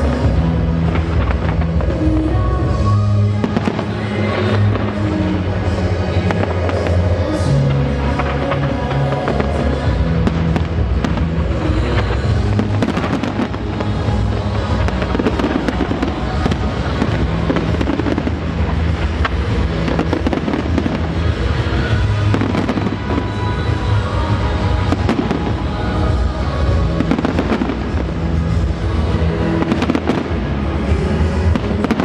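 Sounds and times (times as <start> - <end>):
fireworks bangs and crackling: 0.0 - 32.0
loud music with bass: 0.0 - 32.0.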